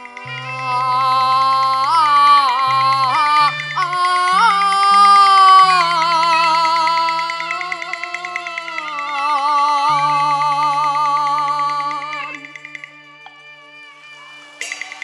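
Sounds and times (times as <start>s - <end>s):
man singing with vibrato: 0.0s - 12.9s
instrumental accompaniment: 0.0s - 15.0s.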